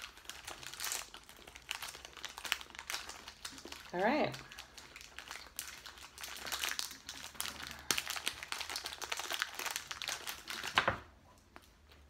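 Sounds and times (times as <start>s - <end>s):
plastic wrapper crackling: 0.0s - 12.0s.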